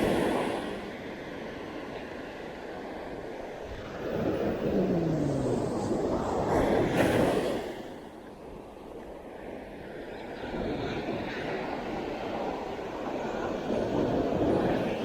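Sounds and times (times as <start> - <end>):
rush of wind or surf: 0.0 - 8.6, 9.2 - 15.0.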